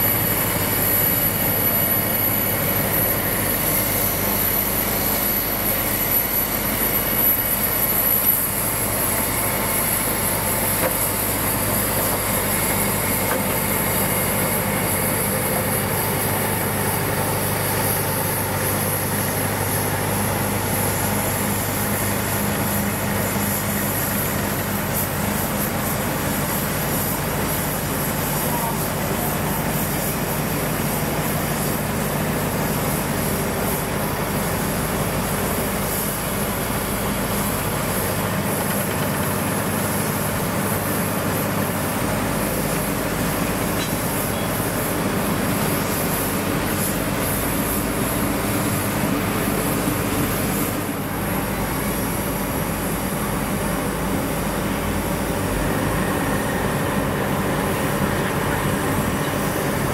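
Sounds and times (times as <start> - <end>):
steam locomotive running: 0.0 - 59.9.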